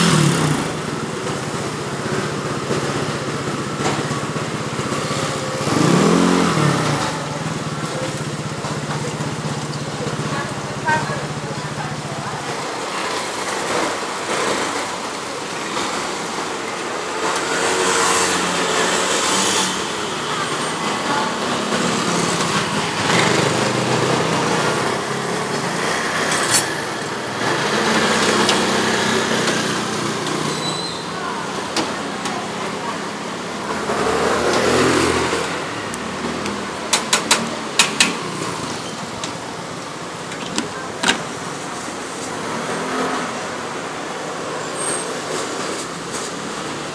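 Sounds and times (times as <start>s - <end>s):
traffic noise: 0.0s - 46.9s.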